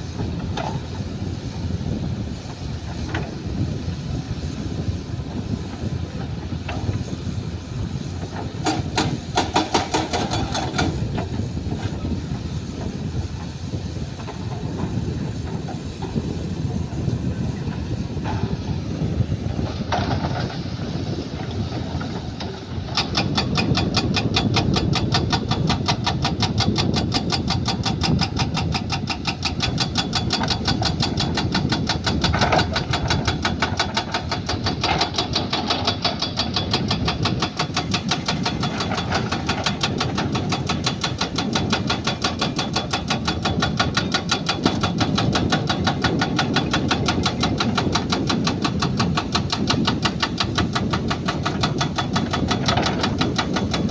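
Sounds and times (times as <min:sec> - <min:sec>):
heavy machine engine running: 0:00.0 - 0:53.9.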